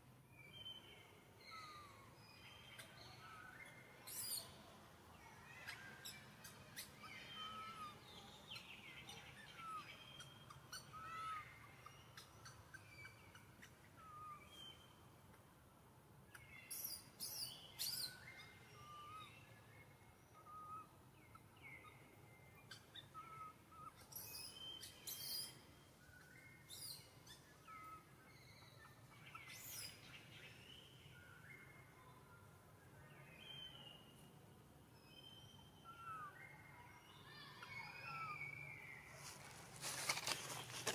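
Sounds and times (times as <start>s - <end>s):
faint birdsong: 0.0s - 40.9s.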